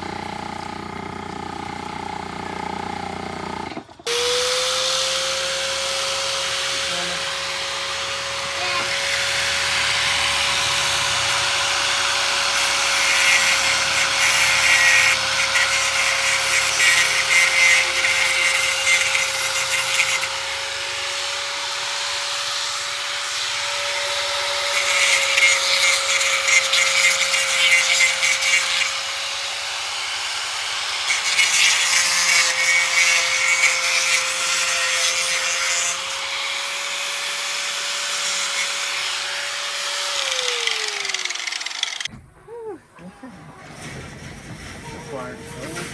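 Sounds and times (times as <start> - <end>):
power saw cutting wood: 0.0 - 42.2, 43.5 - 45.9.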